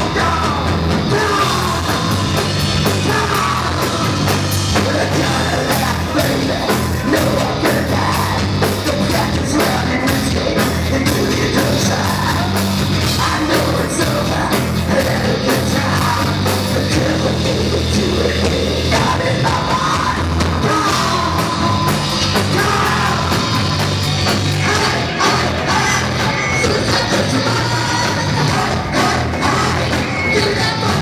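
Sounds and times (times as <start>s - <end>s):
live rock band playing: 0.0s - 31.0s
shouted vocals: 0.0s - 31.0s.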